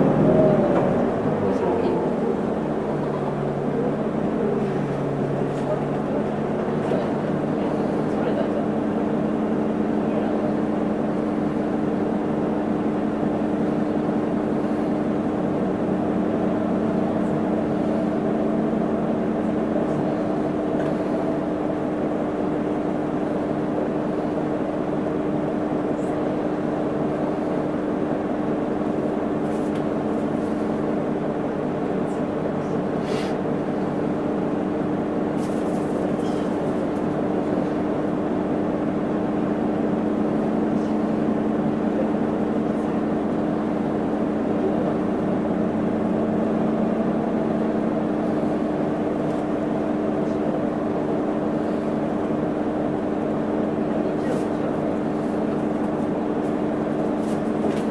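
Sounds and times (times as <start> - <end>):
bus diesel engine drone: 0.0 - 57.9.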